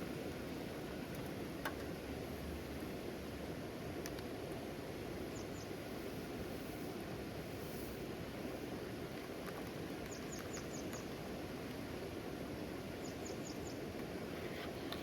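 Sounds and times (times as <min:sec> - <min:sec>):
river water: 0:00.0 - 0:15.0.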